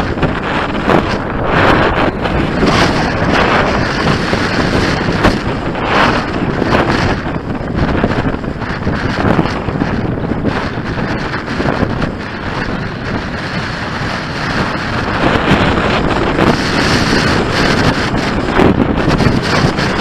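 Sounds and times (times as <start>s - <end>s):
strong wind on microphone: 0.0s - 20.0s.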